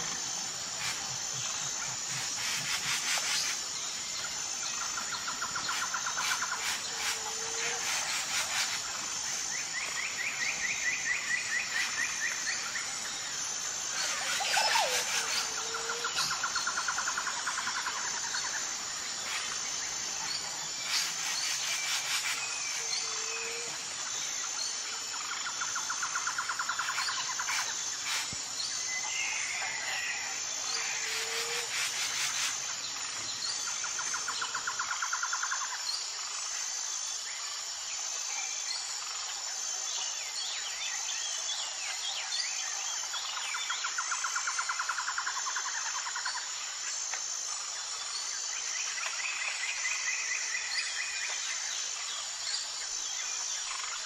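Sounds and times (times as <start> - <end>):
insect trilling calls: 0.0 - 54.0
insects droning: 0.0 - 54.0.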